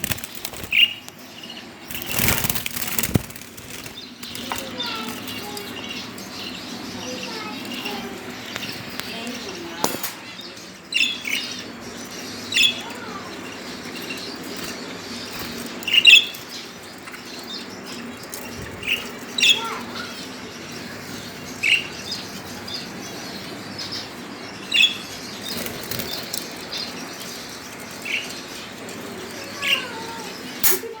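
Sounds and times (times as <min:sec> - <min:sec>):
lovebirds chirping: 0:00.0 - 0:31.0
low background hum: 0:00.0 - 0:31.0.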